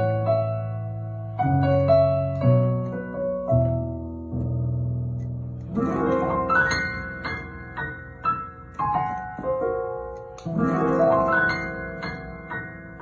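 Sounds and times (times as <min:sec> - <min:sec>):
solo piano playing: 0:00.0 - 0:13.0.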